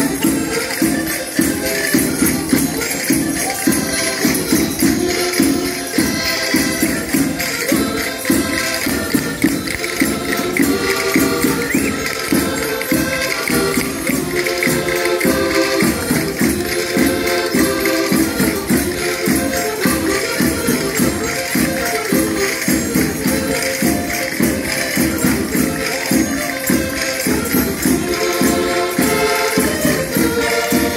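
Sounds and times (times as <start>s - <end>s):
button accordion playing: 0.0s - 30.9s
tambourines: 0.0s - 30.9s.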